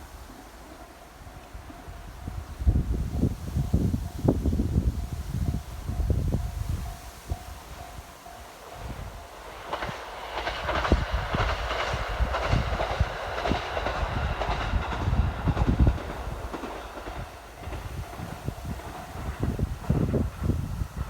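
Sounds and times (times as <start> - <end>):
train wheels clacking on rails: 0.0 - 21.0.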